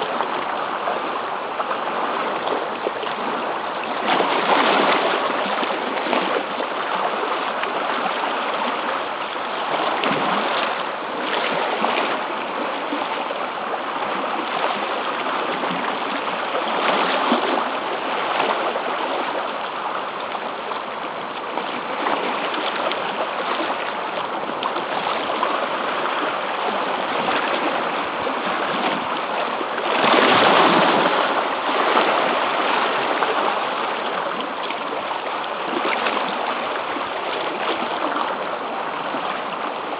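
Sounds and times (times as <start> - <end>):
sea water washing against rocks: 0.0 - 39.9.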